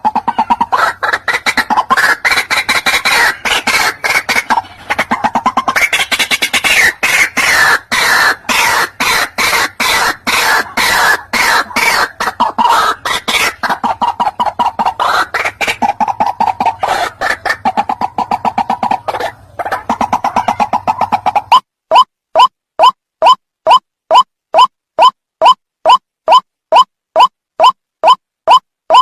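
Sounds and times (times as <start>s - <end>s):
waterhen calling harsh notes: 0.0s - 29.0s.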